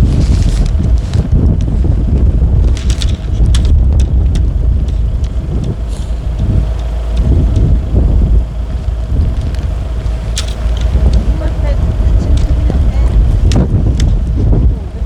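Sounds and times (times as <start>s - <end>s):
strong gusting wind on microphone: 0.0s - 15.0s.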